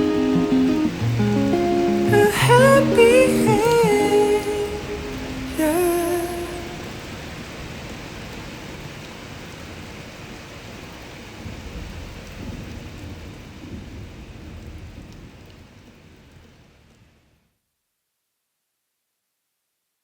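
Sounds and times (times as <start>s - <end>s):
steady rain: 0.0s - 17.6s.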